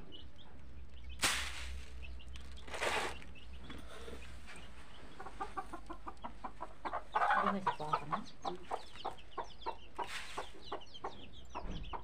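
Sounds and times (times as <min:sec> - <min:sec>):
small birds chirping: 0:00.0 - 0:12.0
hens clucking: 0:02.0 - 0:12.0.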